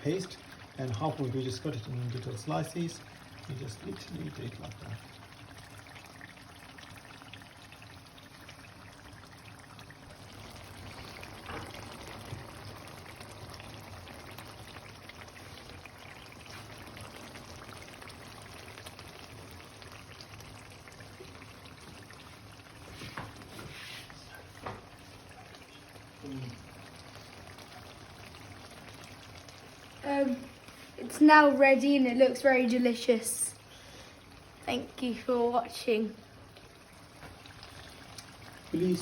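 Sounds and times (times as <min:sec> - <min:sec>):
food sizzling in oil: 0:00.0 - 0:39.0.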